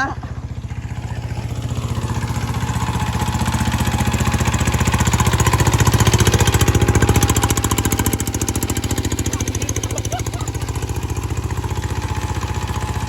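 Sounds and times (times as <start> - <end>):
hand tractor engine running: 0.0 - 13.0.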